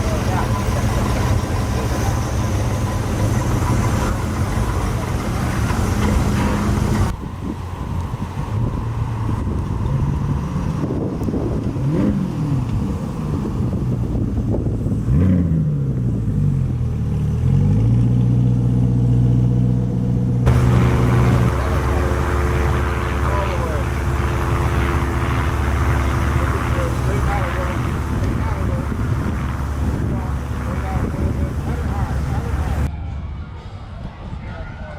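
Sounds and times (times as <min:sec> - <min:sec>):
car engine revving: 0:00.0 - 0:07.1, 0:08.7 - 0:32.9.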